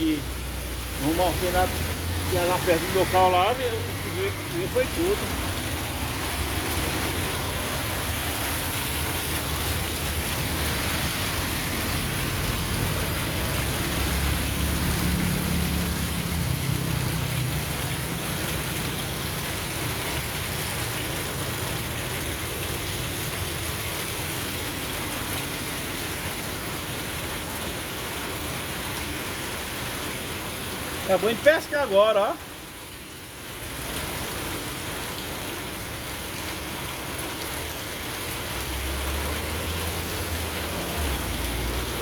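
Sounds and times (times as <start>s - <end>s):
rain pattering on surfaces: 0.0s - 42.0s.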